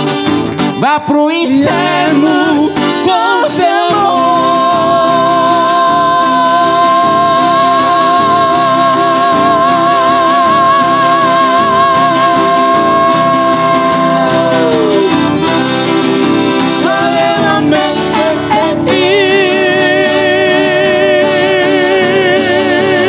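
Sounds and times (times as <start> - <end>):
band playing: 0.0 - 23.0
person singing with vibrato: 0.8 - 23.0.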